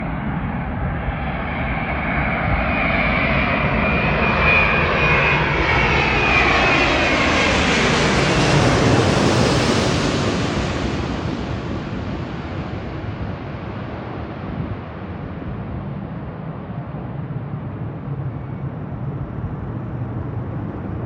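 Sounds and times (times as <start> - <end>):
jet airliner flying past: 0.0 - 21.0.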